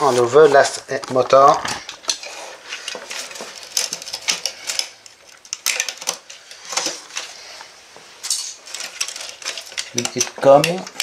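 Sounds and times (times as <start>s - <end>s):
plastic and metal parts rattling: 0.1s - 7.4s, 8.3s - 11.0s.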